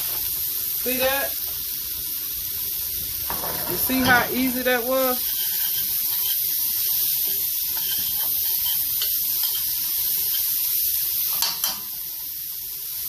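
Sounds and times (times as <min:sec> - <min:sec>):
corn sizzling and popping: 0:00.0 - 0:13.0.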